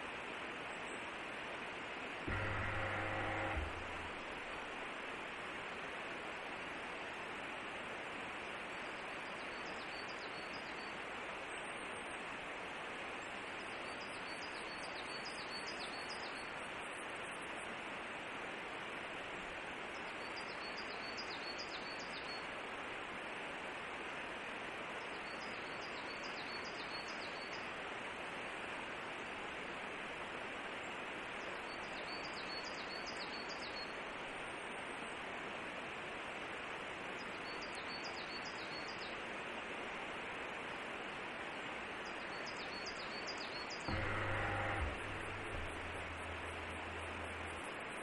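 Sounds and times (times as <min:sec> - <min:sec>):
steady background hiss: 0:00.0 - 0:48.0.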